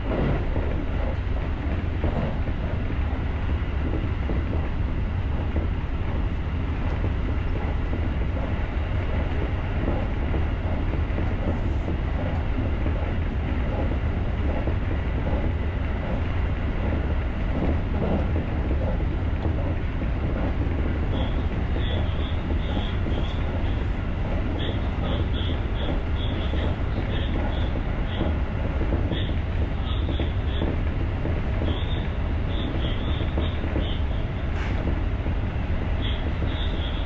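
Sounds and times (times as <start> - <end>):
electric train rumbling on track: 0.0 - 37.0.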